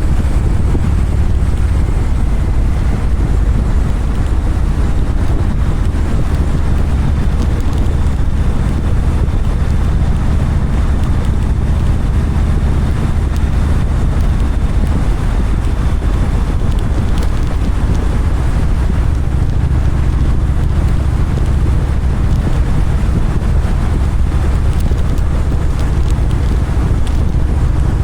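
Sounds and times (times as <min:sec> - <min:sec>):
motorcycle engine and road rumble: 0:00.0 - 0:28.0
wind buffeting microphone: 0:00.0 - 0:28.0.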